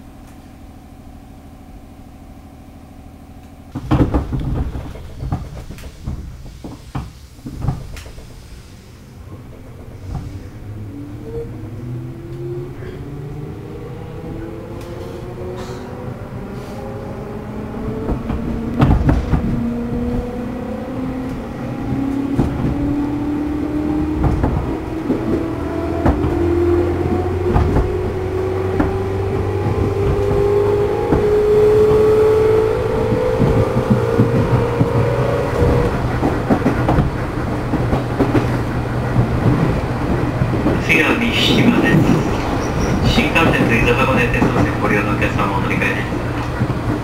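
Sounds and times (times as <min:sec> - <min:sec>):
traction motors whining: 0:00.0 - 0:47.0
train running rumble: 0:00.0 - 0:47.0.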